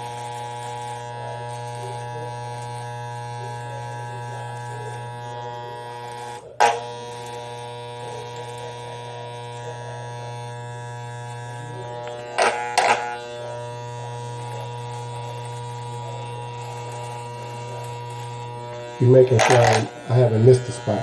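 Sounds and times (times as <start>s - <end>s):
electric shaver buzzing: 0.0s - 21.0s.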